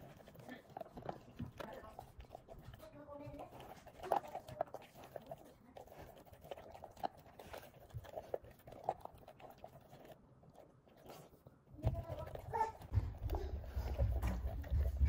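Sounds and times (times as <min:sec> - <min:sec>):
puppy crunching dry kibble: 0:00.0 - 0:15.0.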